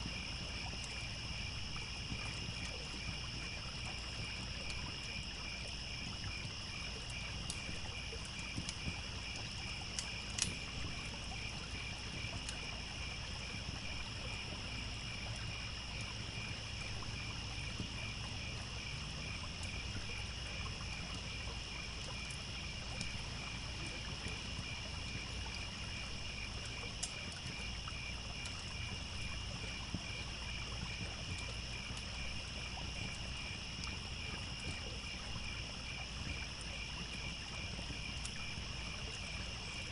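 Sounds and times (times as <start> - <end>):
campfire crackling and popping: 0.0 - 15.3, 16.0 - 39.9
crickets chirping: 0.0 - 39.9
trickling stream: 0.0 - 39.9.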